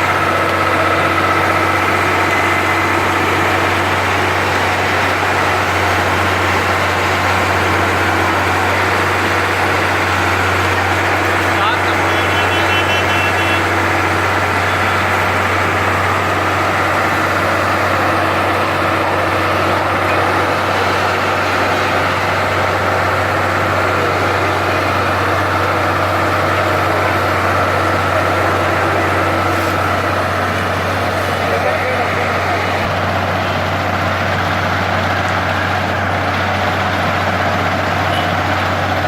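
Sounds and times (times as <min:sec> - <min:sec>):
heavy machinery engine drone: 0:00.0 - 0:39.0
wide noisy hiss: 0:00.0 - 0:39.0.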